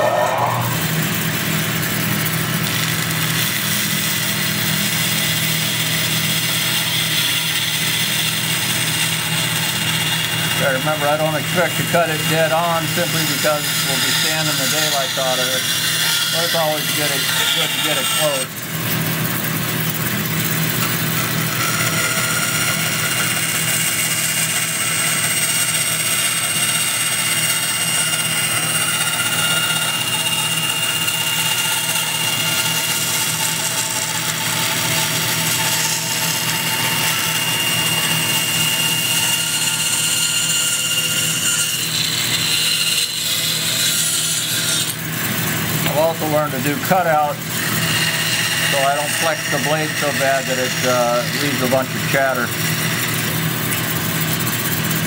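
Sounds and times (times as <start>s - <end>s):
bandsaw cutting wood: 0.0s - 55.0s.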